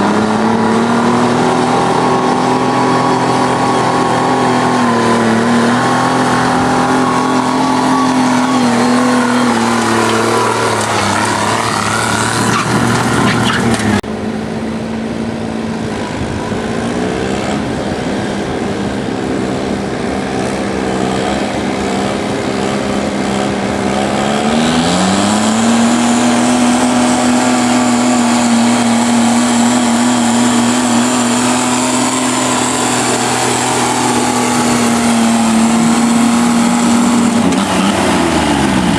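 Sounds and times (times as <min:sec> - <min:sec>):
diesel tractor engine under load: 0:00.0 - 0:38.9.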